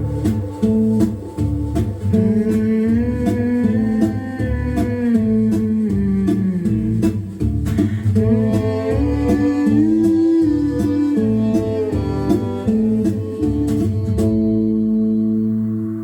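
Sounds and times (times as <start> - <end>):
guitar-led instrumental music: 0.0 - 16.0.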